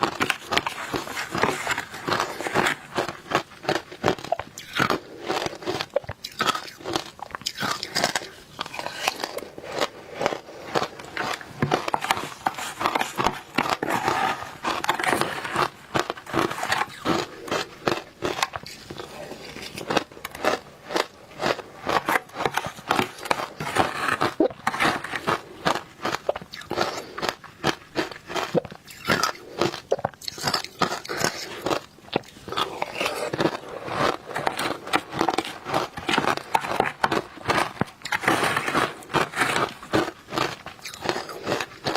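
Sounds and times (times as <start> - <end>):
crunchy ice chewing: 0.0 - 41.9.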